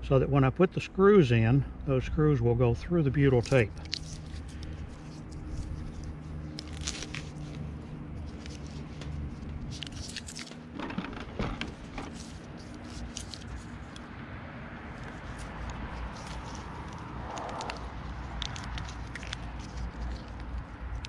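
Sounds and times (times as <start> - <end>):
tape crackles and scrapes: 3.2 - 14.1, 14.8 - 21.0.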